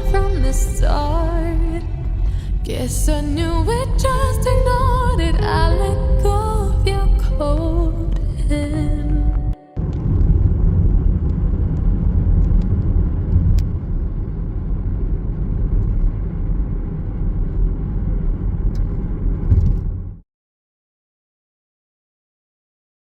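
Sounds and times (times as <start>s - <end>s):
low rumbling noise: 0.0s - 20.2s.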